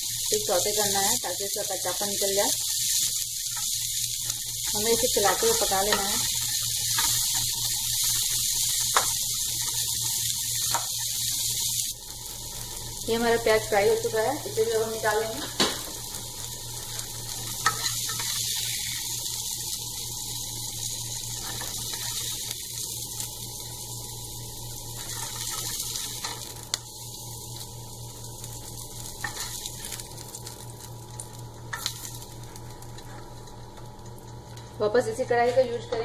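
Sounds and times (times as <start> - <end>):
onion rings sizzling in oil: 0.0 - 36.0.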